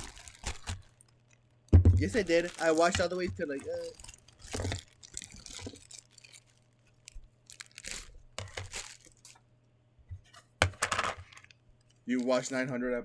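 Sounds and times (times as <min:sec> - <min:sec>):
packaging crinkling: 0:00.0 - 0:09.5, 0:10.6 - 0:12.7.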